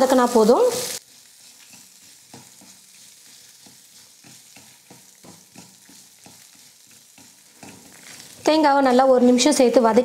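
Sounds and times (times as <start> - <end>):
faint oil sizzle: 0.0 - 10.0
wooden spatula scraping metal pan: 0.4 - 9.4.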